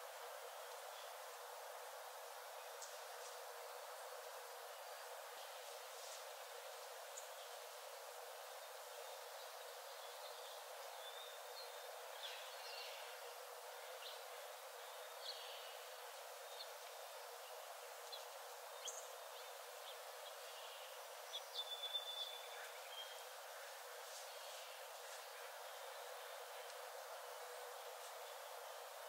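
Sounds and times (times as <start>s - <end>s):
soft steady hiss: 0.0s - 29.0s.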